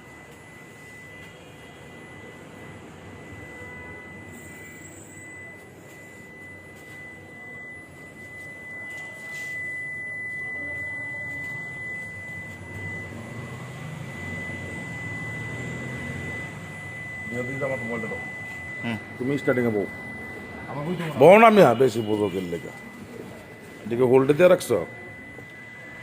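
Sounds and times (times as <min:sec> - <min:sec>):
high-pitched electronic tone: 0:00.0 - 0:26.0.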